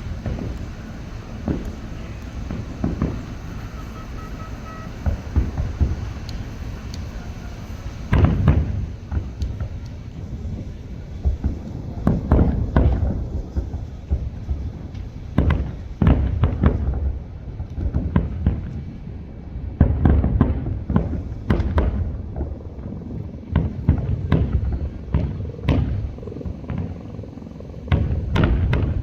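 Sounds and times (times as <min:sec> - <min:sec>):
fireworks bangs: 0:00.0 - 0:29.0
low rumbling echo: 0:00.0 - 0:29.0.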